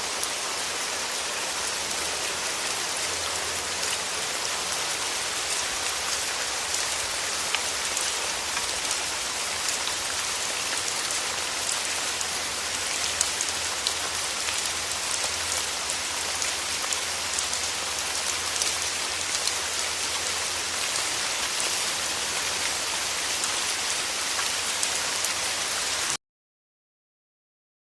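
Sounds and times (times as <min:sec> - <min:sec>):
rain hiss: 0:00.0 - 0:26.2.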